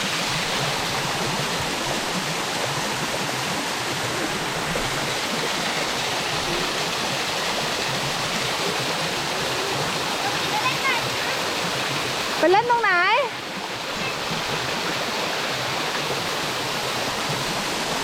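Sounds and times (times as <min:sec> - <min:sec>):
waterfall splashing onto rocks: 0:00.0 - 0:18.0.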